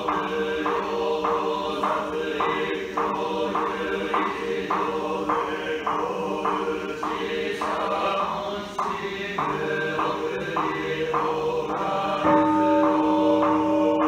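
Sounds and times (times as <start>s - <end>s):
priests chanting: 0.0s - 14.0s
sustained vocal drone: 0.0s - 14.0s.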